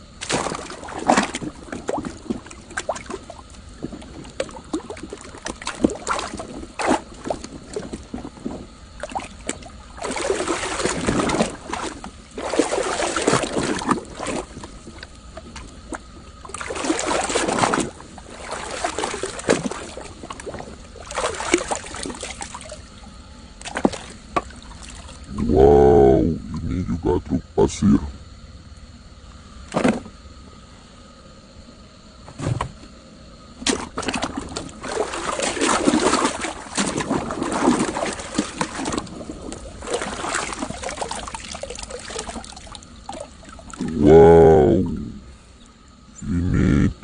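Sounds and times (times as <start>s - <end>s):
water splashing and sloshing: 0.0s - 26.7s, 28.7s - 46.1s.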